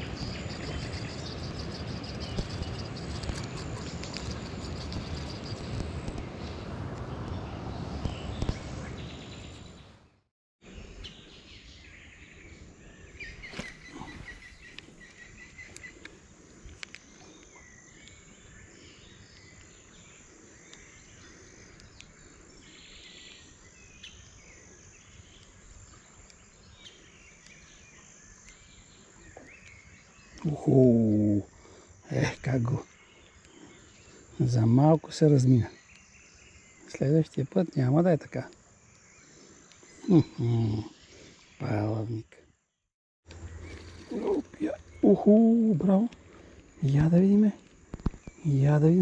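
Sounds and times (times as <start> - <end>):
insect buzz: 0.0 - 9.8, 10.7 - 42.2
small birds chirping: 0.0 - 49.0.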